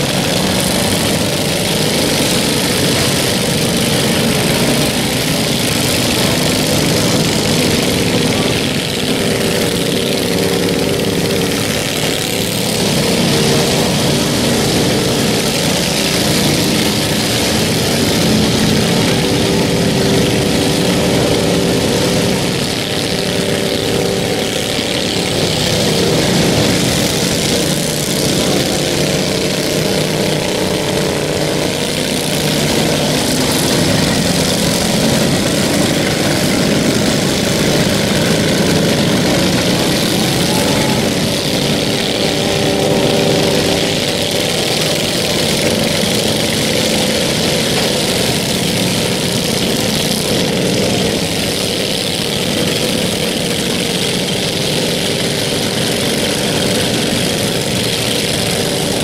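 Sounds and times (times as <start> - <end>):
lawn mower engines droning: 0.0 - 59.0.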